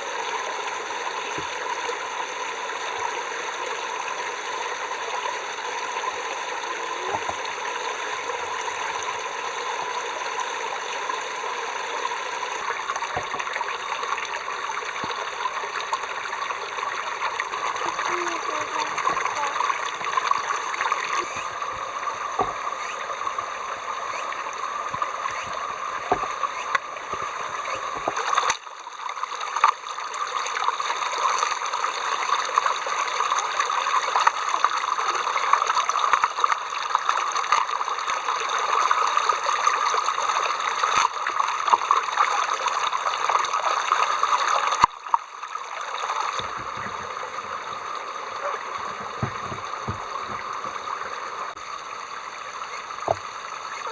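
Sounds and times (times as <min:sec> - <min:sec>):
water flowing steadily: 0:00.0 - 0:53.9.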